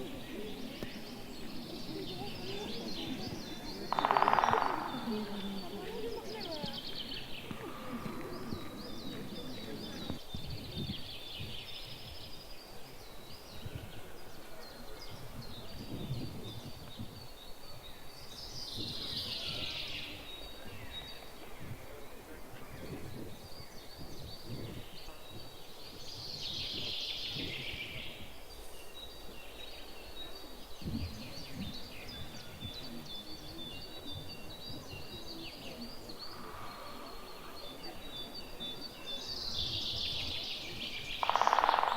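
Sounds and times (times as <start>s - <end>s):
birds singing and chirping: 0.0s - 41.9s.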